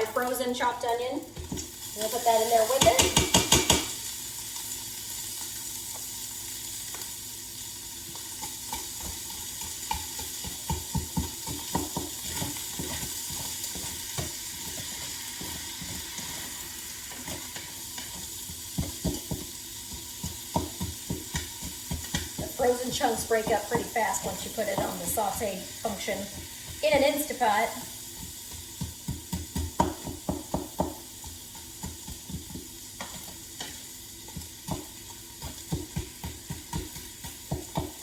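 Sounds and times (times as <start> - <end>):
onion and sausage sizzling: 0.0 - 38.0
utensil knocking and scraping pot: 1.4 - 4.0, 8.4 - 38.0.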